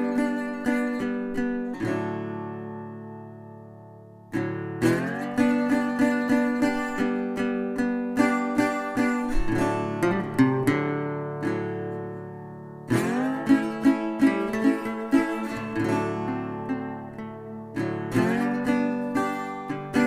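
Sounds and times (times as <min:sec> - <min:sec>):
acoustic guitar picking and strumming: 0:00.0 - 0:20.0.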